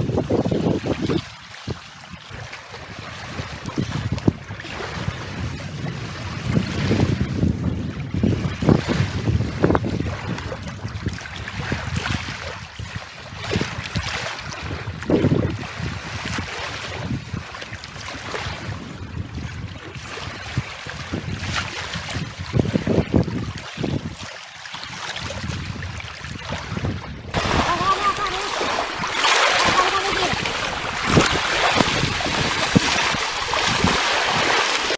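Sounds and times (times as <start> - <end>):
small waves lapping at shore: 0.0 - 34.9
wind buffeting microphone: 0.0 - 34.9.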